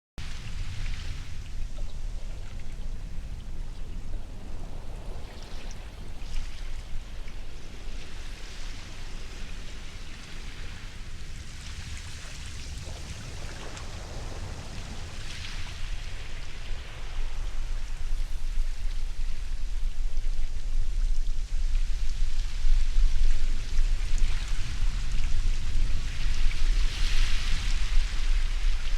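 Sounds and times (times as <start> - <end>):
waves washing in: 0.2 - 28.9.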